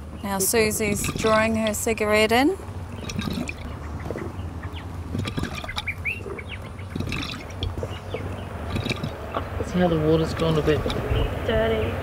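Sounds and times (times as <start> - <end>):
water bubbling and gurgling: 0.0 - 11.4.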